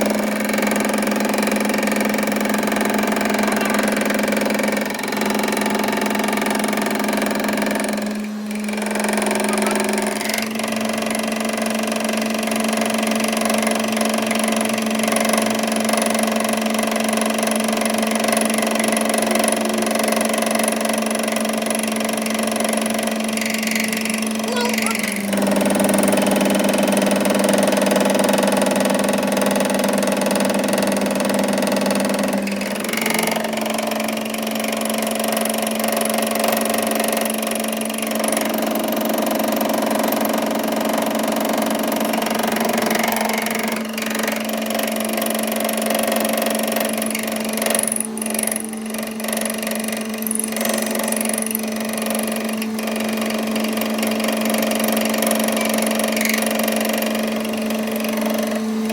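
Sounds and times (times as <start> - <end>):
machine motor humming: 0.0 - 58.9.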